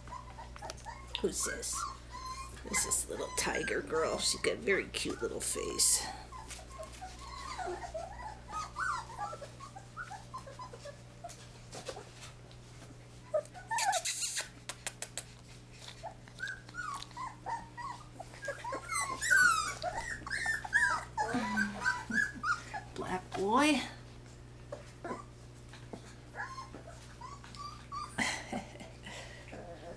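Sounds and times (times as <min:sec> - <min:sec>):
puppies whimpering and whining: 0:00.0 - 0:29.9.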